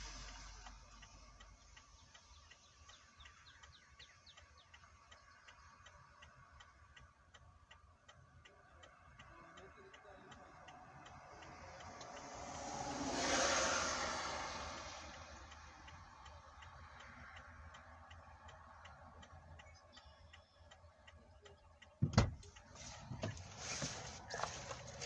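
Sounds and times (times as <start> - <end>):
faint steady ticking: 0.0 - 25.0.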